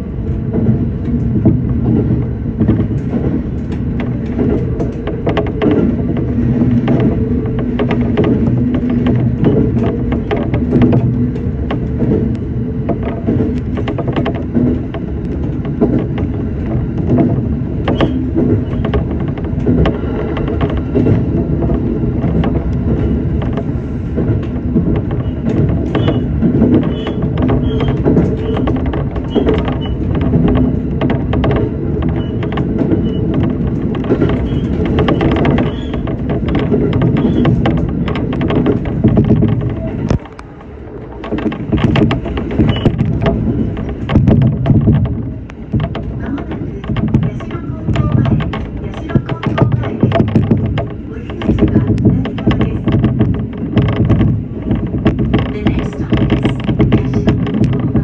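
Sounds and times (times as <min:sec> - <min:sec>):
train interior rumble: 0:00.0 - 0:58.0
wheel clicks on track: 0:00.2 - 0:58.0.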